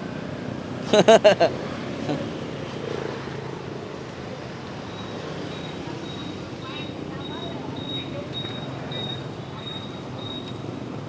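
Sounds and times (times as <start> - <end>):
busy street market hum: 0.0 - 11.0
traffic: 0.0 - 11.0.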